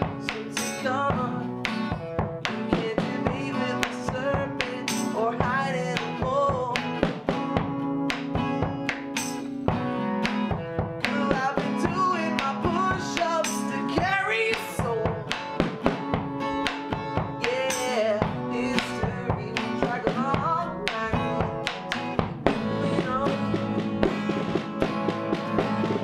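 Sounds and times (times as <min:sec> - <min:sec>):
person singing: 0:00.0 - 0:09.2, 0:11.0 - 0:16.0, 0:16.6 - 0:24.8
electric guitar: 0:00.0 - 0:26.0
hand drum strikes: 0:00.0 - 0:26.0
strummed acoustic guitar: 0:00.0 - 0:26.0.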